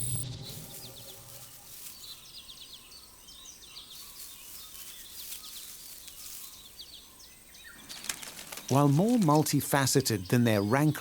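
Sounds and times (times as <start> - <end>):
faint outdoor ambience: 0.0 - 11.0
small birds chirping: 0.0 - 11.0.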